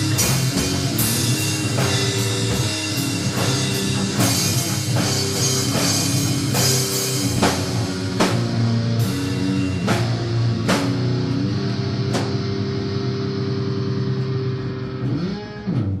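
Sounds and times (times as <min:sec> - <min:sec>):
drums with cymbal crashes: 0:00.0 - 0:12.9
distorted guitar chords: 0:00.0 - 0:16.0.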